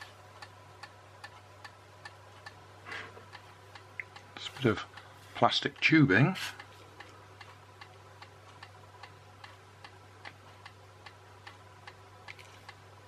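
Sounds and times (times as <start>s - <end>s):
faint even ticking: 0.0s - 13.0s
low electrical hum: 0.0s - 13.0s.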